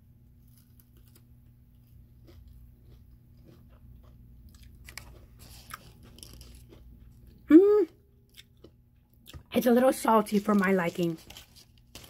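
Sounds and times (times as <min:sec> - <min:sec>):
crunching and chewing: 0:00.3 - 0:07.5, 0:08.2 - 0:12.0.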